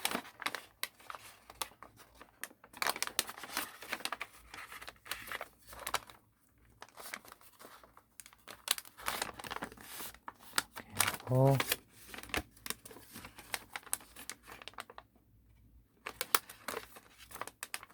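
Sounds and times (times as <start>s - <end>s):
paper crinkling and rustling: 0.0s - 15.1s, 16.0s - 17.9s.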